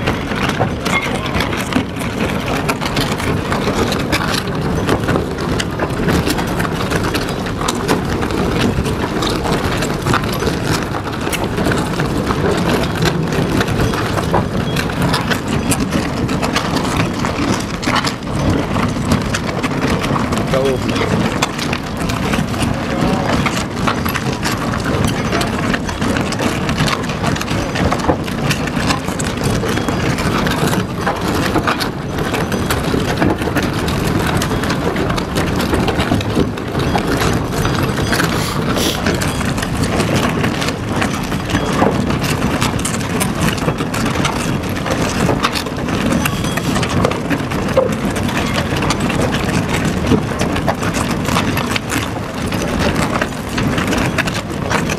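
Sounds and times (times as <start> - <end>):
tunnel boring machine grinding rock: 0.0 - 54.9.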